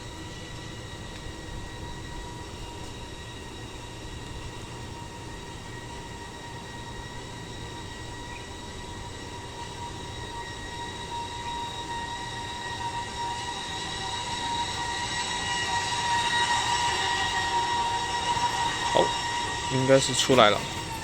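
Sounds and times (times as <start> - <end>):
coffee machine high whine: 0.0 - 21.0.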